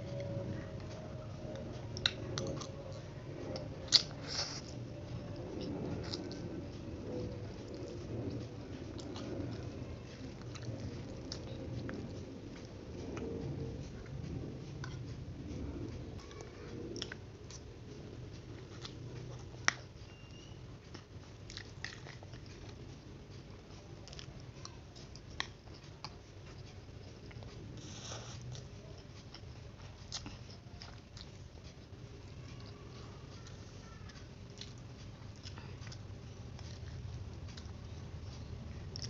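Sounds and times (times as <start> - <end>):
person chewing noodles: 0.0 - 39.0.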